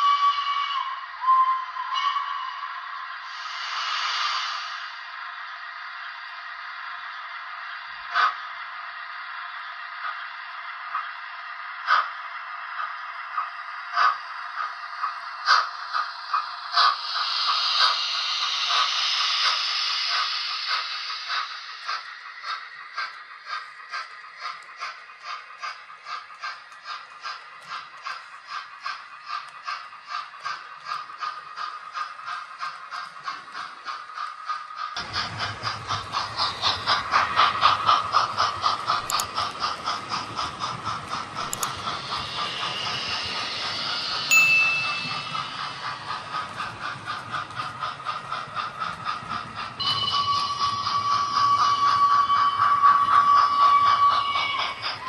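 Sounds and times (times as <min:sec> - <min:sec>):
model train steam hiss: 0:00.0 - 0:55.0.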